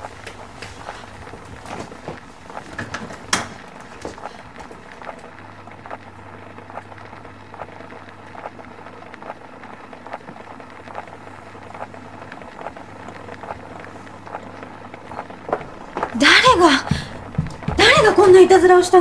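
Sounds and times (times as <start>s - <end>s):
low hum: 0.0s - 19.0s
record crackling: 0.0s - 19.0s.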